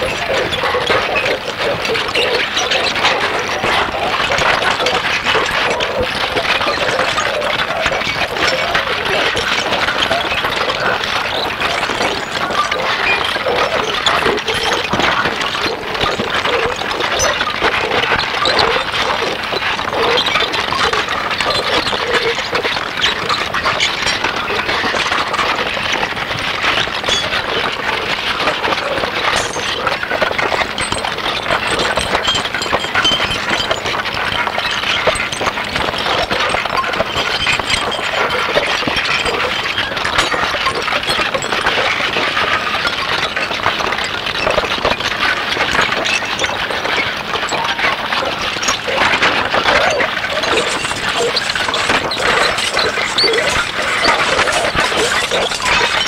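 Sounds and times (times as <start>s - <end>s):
harsh crackling and scraping noise: 0.0s - 56.0s.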